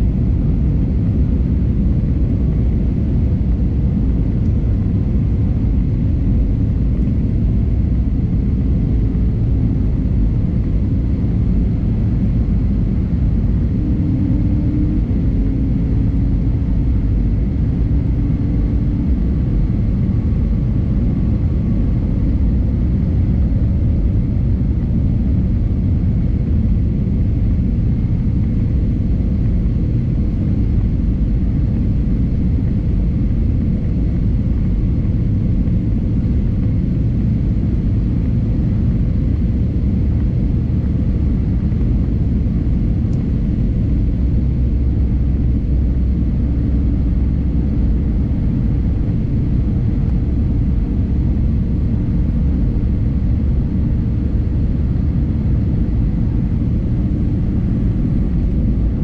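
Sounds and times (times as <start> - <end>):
airplane cabin engine rumble: 0.0 - 59.0
faint engine tones: 0.0 - 59.0.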